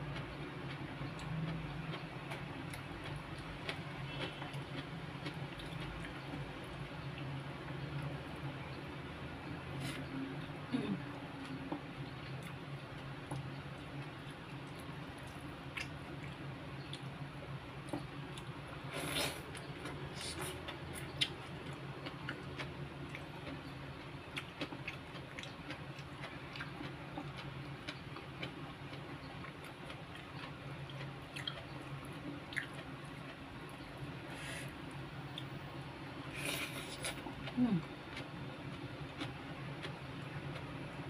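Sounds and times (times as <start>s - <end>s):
steady low hum: 0.0s - 41.0s
chewing and wet mouth noises: 0.1s - 8.4s, 9.8s - 35.6s, 36.4s - 41.0s.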